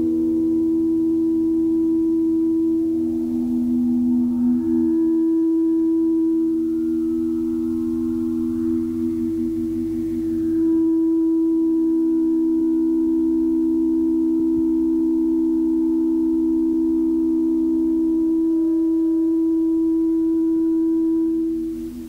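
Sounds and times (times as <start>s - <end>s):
ambient electronic drone: 0.0s - 22.0s.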